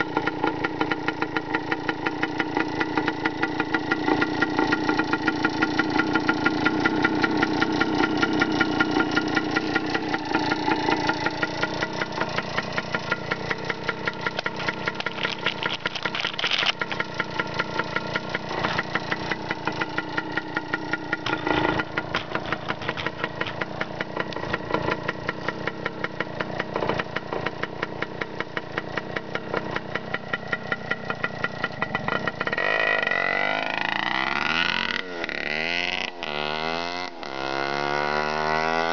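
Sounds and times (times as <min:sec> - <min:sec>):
two-stroke engine idling and revving: 0:00.0 - 0:38.9.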